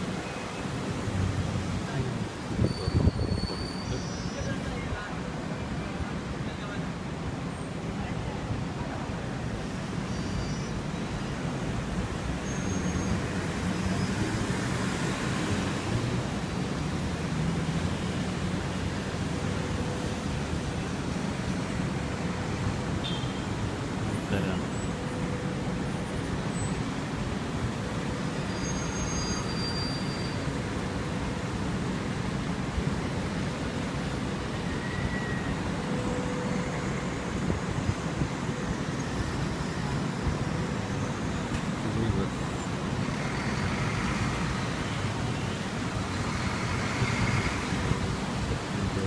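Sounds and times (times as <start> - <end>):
rain: 0.0 - 49.0
road traffic on wet streets: 0.0 - 49.0.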